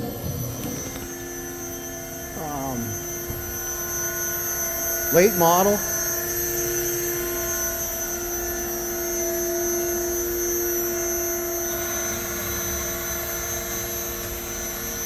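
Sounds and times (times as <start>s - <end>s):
bandsaw humming: 0.0s - 15.0s
high whine: 0.0s - 15.0s.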